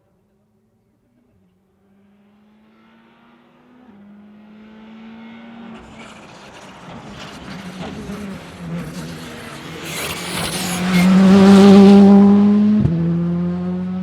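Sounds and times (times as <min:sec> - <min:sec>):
rally car engine approaching: 0:01.1 - 0:14.0.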